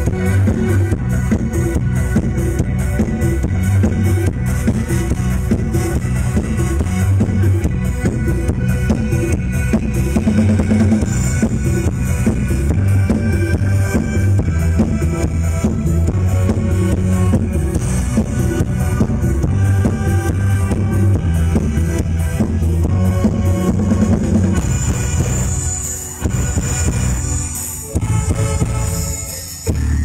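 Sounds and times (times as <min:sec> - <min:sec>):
bass drum and snare beat: 0:00.0 - 0:30.0
heavy bass line: 0:00.0 - 0:30.0
live band music over pa system: 0:00.0 - 0:30.0.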